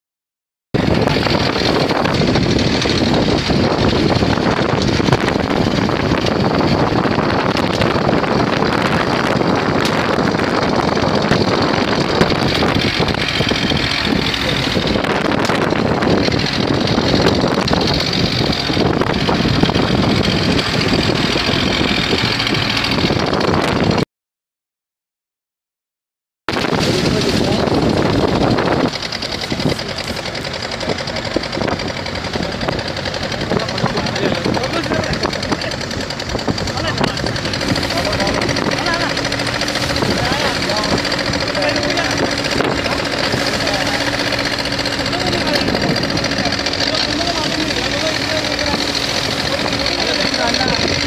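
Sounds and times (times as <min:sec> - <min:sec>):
speedboat engine running: 0:00.8 - 0:24.0, 0:26.5 - 0:51.0
wind buffeting microphone: 0:00.8 - 0:24.0, 0:26.5 - 0:51.0.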